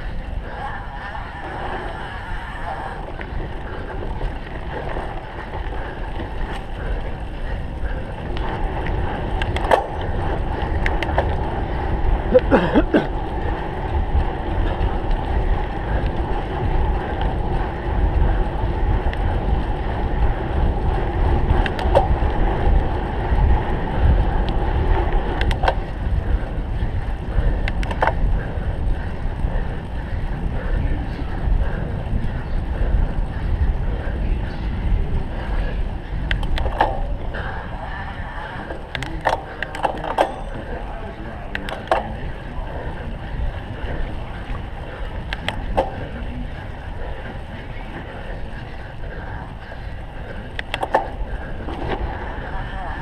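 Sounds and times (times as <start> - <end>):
tyres rumbling: 0.0 - 53.0
wind rushing over microphone: 0.0 - 53.0.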